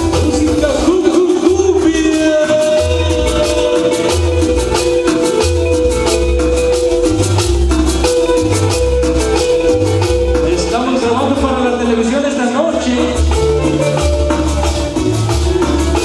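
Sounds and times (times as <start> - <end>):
latin dance music: 0.0 - 16.0.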